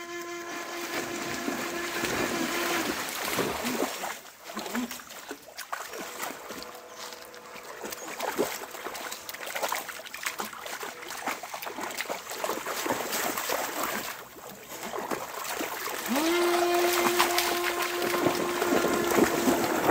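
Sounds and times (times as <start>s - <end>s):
dogs splashing through water: 0.8s - 19.9s.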